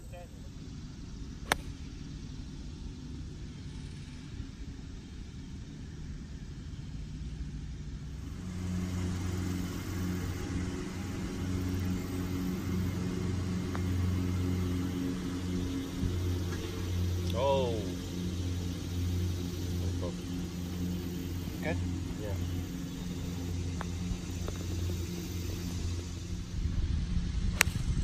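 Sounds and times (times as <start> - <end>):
low outdoor rumble: 0.0 - 28.0
vehicle engine drone: 0.0 - 28.0.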